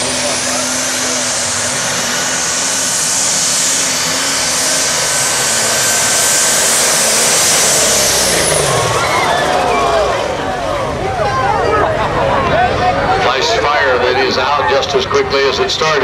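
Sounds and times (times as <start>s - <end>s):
tractor engine at full throttle: 0.0s - 16.0s.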